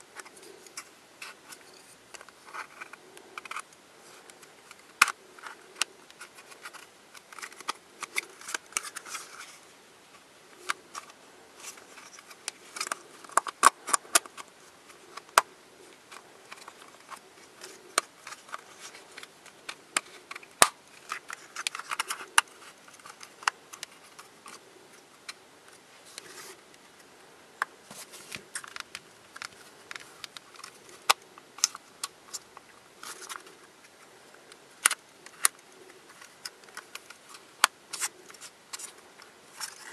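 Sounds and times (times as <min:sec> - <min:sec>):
plastic rubbing and rattling: 0:00.1 - 0:09.6, 0:10.6 - 0:27.1, 0:27.8 - 0:34.0.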